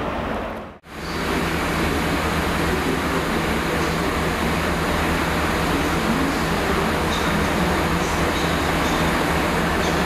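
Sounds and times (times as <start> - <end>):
diesel locomotive engine hum: 0.0 - 10.0
train rushing noise: 0.0 - 10.0.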